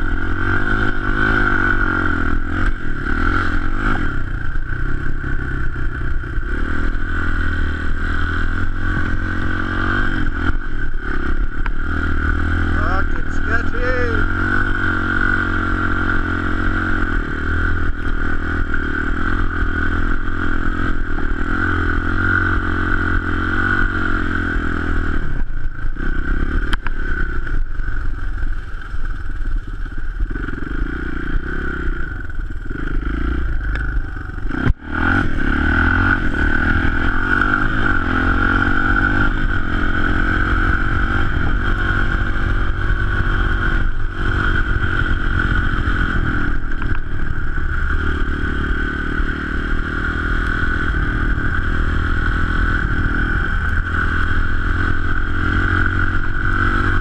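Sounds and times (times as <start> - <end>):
dirt bike engine revving: 0.0 - 28.4, 30.2 - 57.0.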